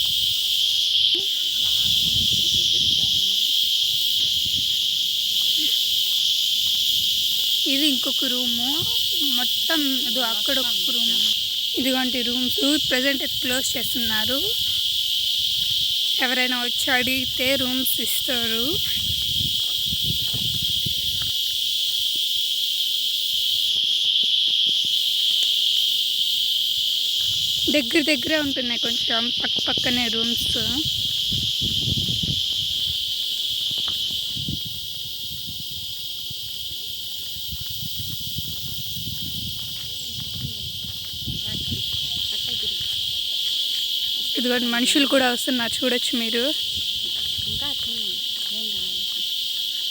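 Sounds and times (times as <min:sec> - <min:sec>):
insects buzzing: 0:00.0 - 0:49.9.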